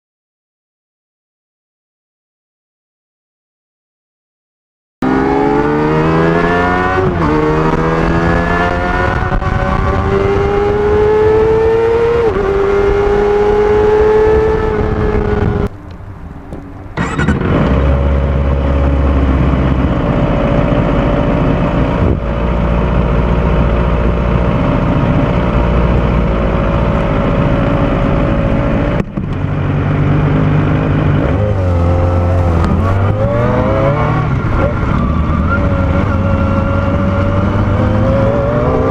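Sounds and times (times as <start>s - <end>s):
motorcycle engine accelerating: 5.0s - 38.9s.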